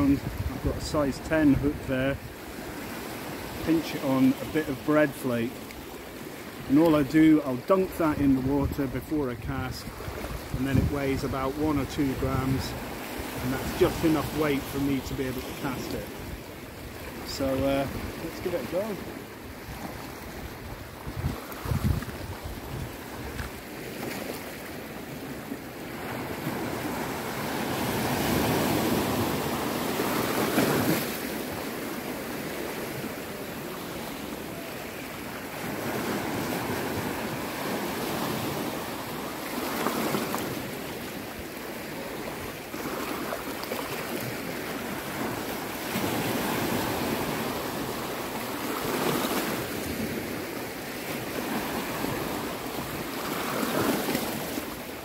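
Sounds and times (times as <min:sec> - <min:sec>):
waves washing over rocks: 0:00.0 - 0:55.0.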